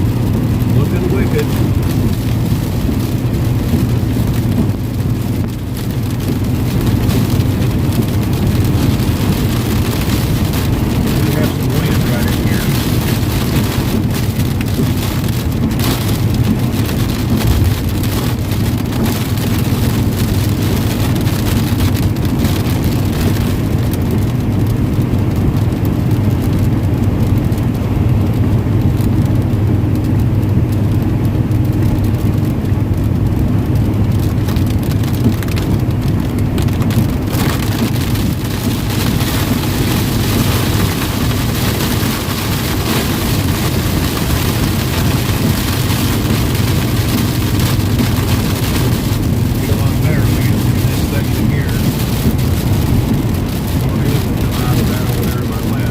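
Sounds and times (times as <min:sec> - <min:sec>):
rain hissing on vehicle: 0:00.0 - 0:55.9
road and engine drone: 0:00.0 - 0:55.9.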